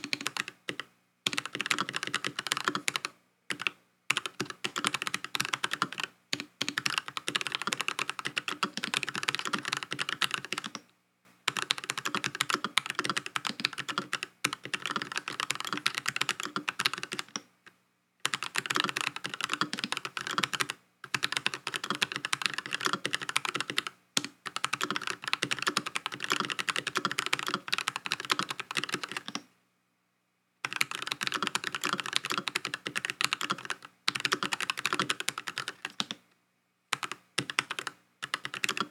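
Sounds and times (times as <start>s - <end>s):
fast typing on mechanical keyboard: 0.0s - 10.8s, 11.5s - 17.4s, 18.2s - 29.4s, 30.7s - 36.2s, 36.9s - 38.9s.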